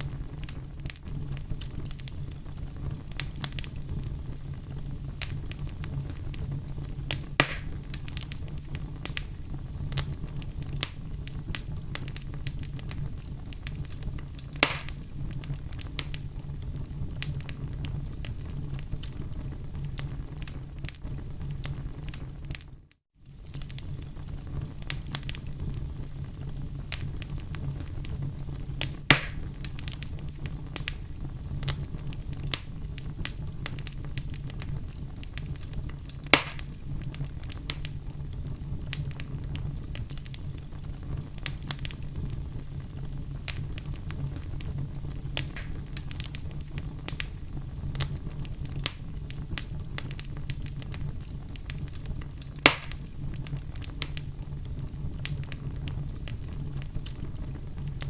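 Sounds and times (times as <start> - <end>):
sharp pops from fire: 0.0 - 58.0
wood fire crackling: 0.0 - 58.0.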